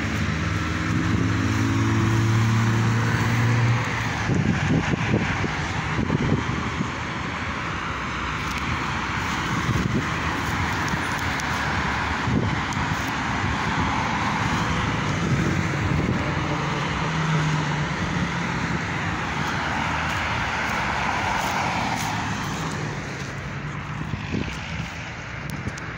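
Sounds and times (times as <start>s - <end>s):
distant road traffic: 0.0s - 25.9s
low vehicle hum: 0.0s - 25.9s.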